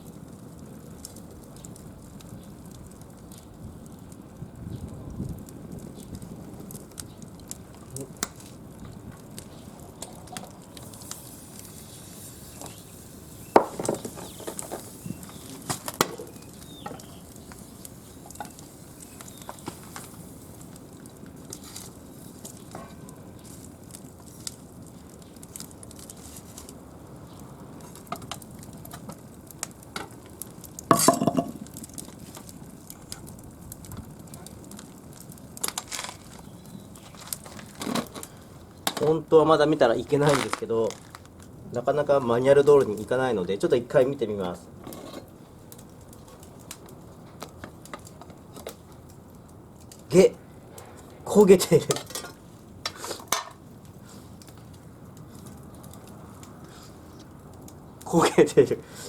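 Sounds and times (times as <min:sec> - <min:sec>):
steady sizzle: 0:00.0 - 0:59.0
wood fire crackling: 0:00.0 - 0:59.0.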